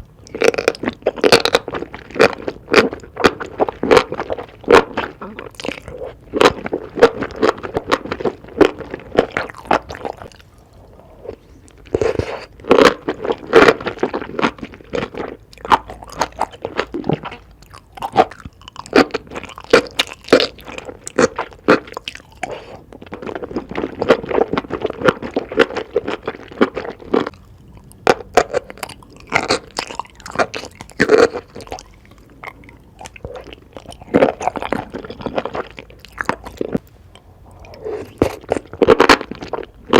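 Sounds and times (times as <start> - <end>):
crunchy bites and chewing: 0.2 - 39.9.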